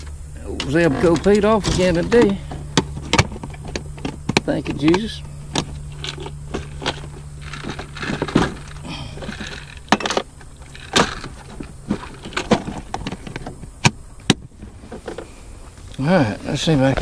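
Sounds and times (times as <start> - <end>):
gear rattling in metal boat: 0.0 - 15.4
steady low hum: 0.0 - 17.0.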